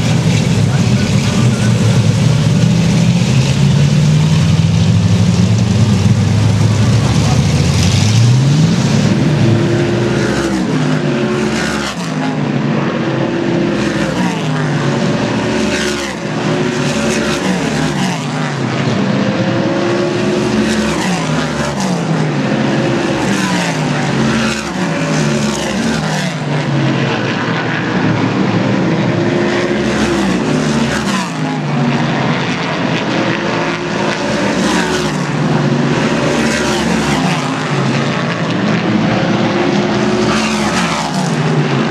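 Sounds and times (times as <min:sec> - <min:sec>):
race car engines passing: 0:00.0 - 0:41.9.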